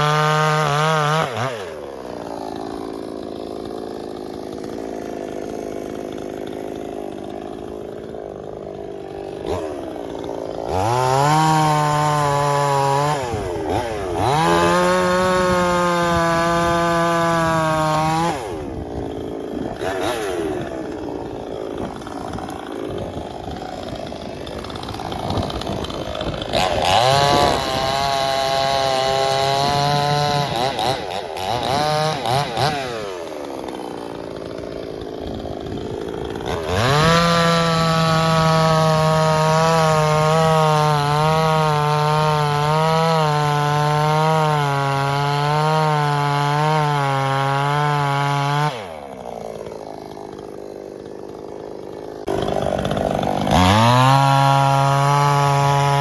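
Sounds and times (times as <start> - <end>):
chainsaw revving and cutting log: 0.0 - 56.0.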